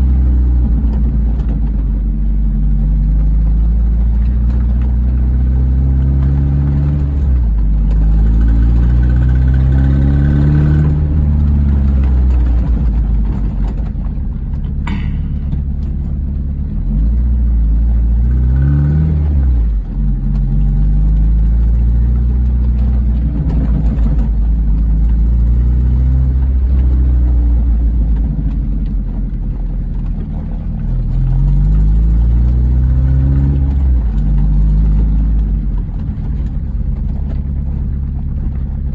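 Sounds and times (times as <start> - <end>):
car engine revving: 0.0 - 38.9
exhaust ticking and squealing: 0.0 - 38.9.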